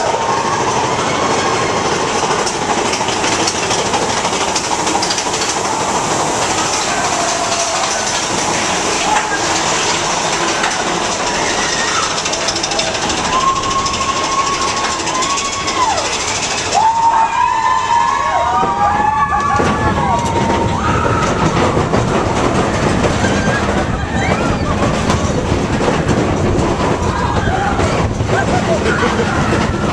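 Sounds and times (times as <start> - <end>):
roller coaster cars rattling: 0.0 - 29.9.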